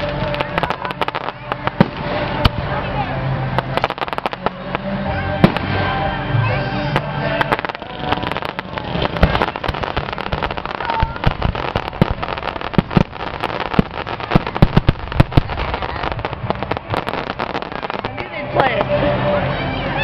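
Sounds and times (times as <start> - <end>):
fireworks bangs: 0.0 - 6.2, 6.9 - 19.2
fireworks crackle: 0.0 - 20.0.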